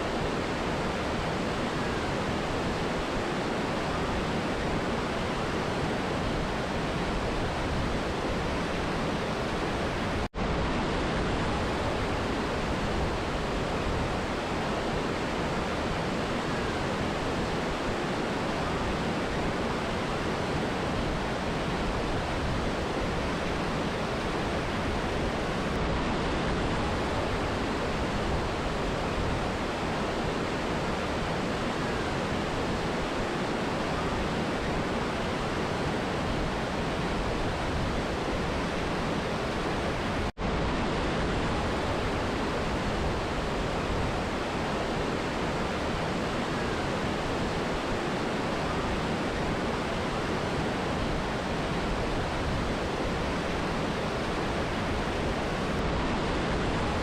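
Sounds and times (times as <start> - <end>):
river and waterfall rushing: 0.0 - 57.0.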